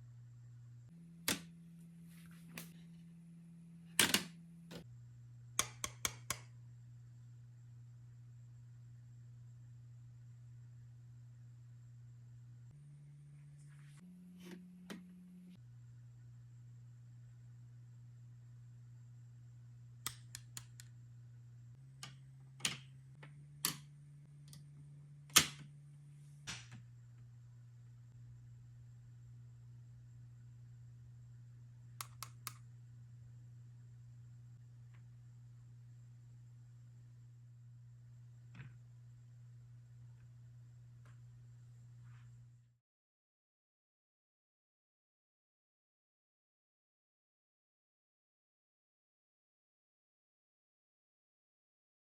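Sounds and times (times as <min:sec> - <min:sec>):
steady low hum: 0:00.0 - 0:42.7.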